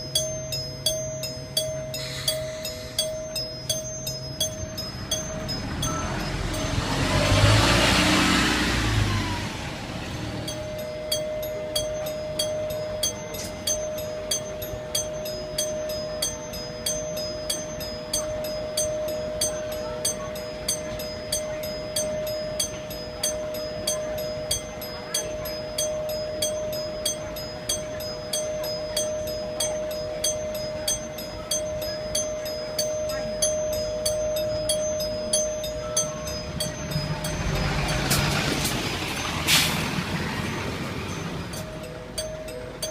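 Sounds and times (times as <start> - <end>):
bus two-tone warning chime: 0.0 - 42.9
regular ticking: 0.0 - 42.9
rush of vehicle noise: 0.0 - 42.9.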